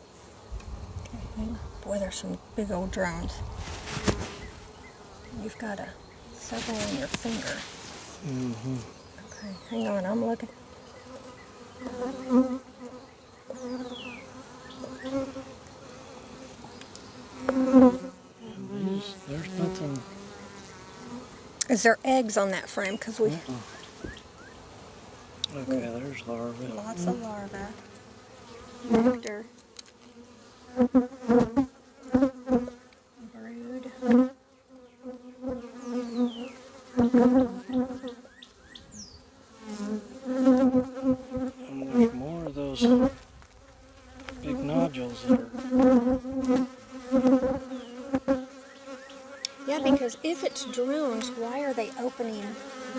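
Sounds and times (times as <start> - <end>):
honey bees buzzing: 0.0 - 52.9.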